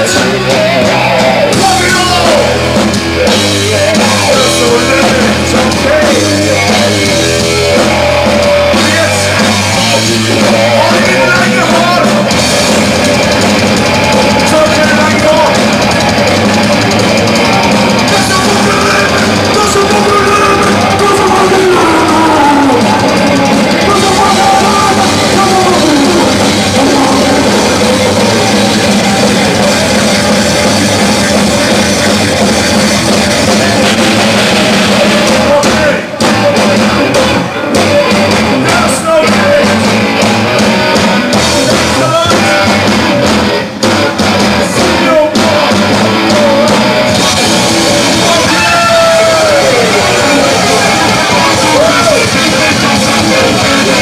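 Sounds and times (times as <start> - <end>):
heavy metal band playing live: 0.0 - 54.0.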